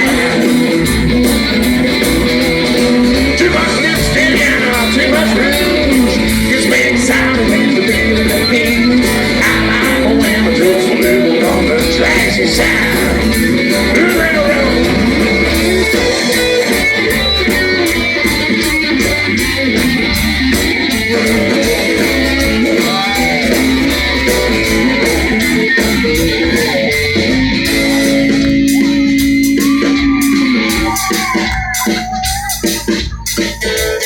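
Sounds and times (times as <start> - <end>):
bass guitar: 0.0 - 34.0
electric guitar solo: 0.0 - 34.0
steady drum beat: 0.0 - 34.0.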